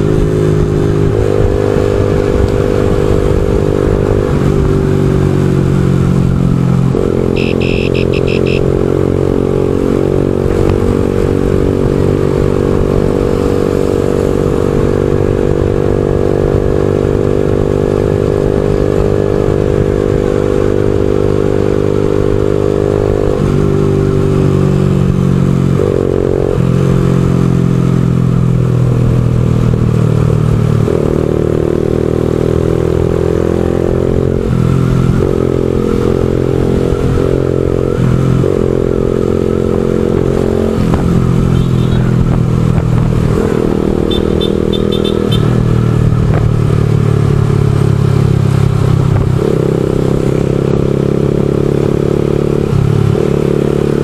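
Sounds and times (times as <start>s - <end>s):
low road rumble: 0.0s - 54.0s
motorcycle engine running: 0.0s - 54.0s.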